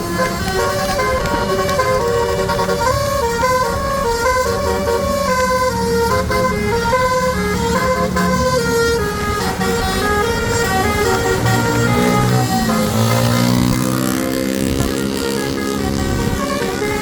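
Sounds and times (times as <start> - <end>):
bus musical horn melody: 0.0 - 17.0.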